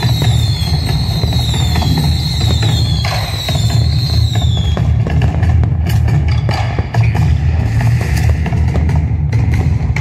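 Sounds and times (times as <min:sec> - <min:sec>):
fireworks bangs and crackles: 0:00.0 - 0:10.0
low rumble of fireworks: 0:00.0 - 0:10.0.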